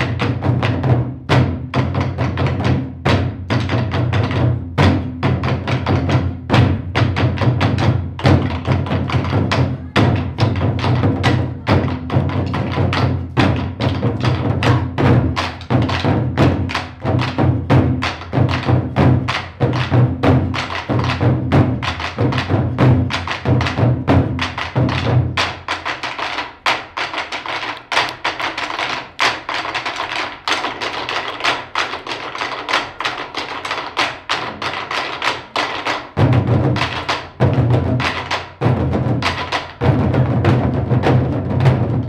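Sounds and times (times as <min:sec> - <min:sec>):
barrel drums struck with sticks: 0:00.0 - 0:29.6, 0:33.7 - 0:42.0.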